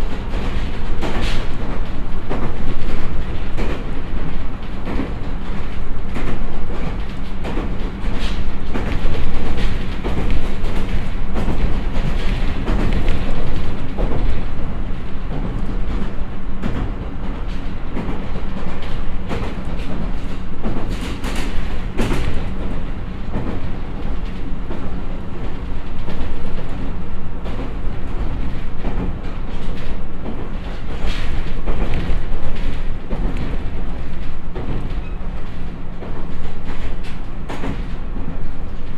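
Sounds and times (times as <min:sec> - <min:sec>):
train wheel and track rumble: 0:00.0 - 0:38.9.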